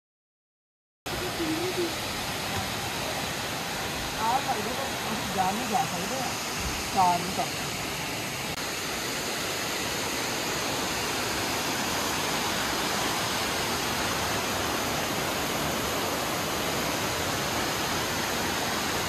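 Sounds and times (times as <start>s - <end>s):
waterfall rushing: 1.1s - 19.0s.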